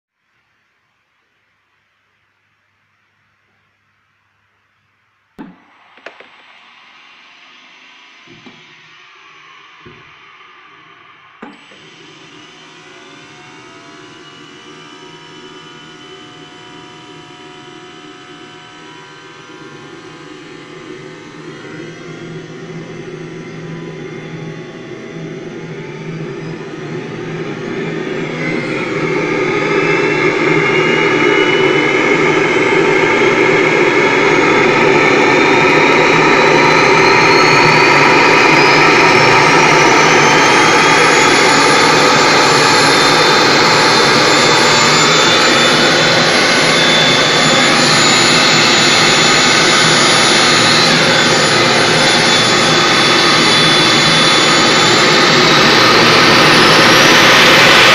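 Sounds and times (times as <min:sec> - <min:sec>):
jet turbine whine: 0:05.4 - 0:57.9.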